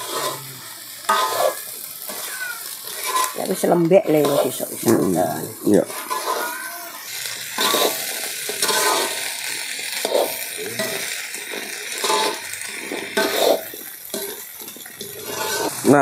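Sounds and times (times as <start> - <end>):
metal spatula scraping a wok: 0.0 - 16.0
stir-fry sizzling: 0.0 - 16.0.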